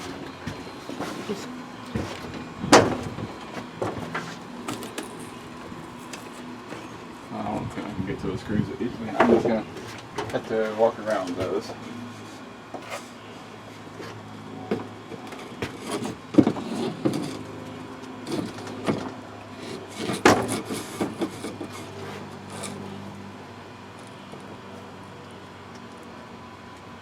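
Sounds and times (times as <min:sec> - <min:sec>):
wood scraping against frame: 0:00.0 - 0:23.0.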